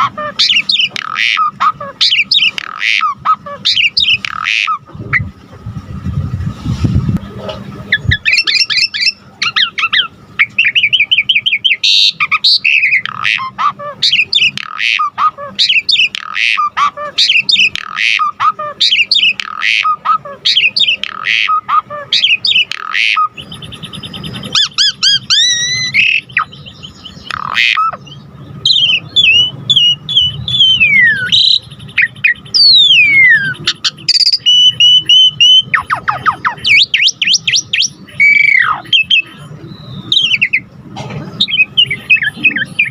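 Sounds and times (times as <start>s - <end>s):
starling singing varied song: 0.0s - 5.4s, 7.9s - 40.8s.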